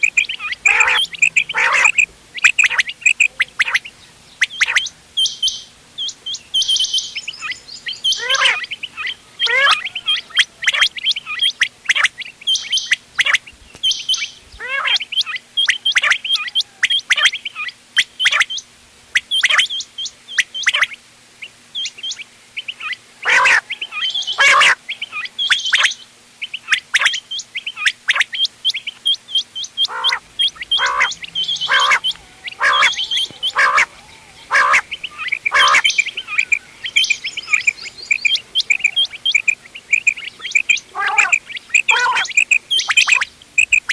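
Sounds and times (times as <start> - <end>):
quail calls: 0.0 - 13.5, 14.1 - 18.6, 19.2 - 43.9.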